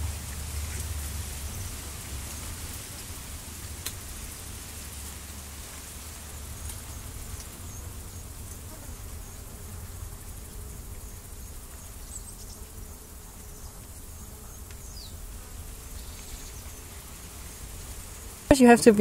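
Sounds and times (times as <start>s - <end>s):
insects buzzing and chirping: 0.0s - 19.0s.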